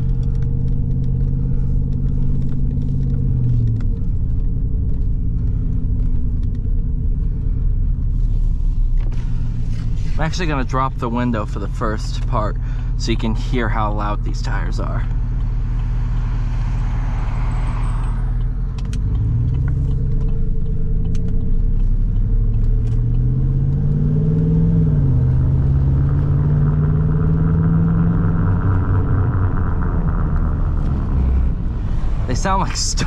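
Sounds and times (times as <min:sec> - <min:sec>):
tire buzzing hum: 0:00.0 - 0:33.0
truck engine accelerating: 0:00.0 - 0:33.0.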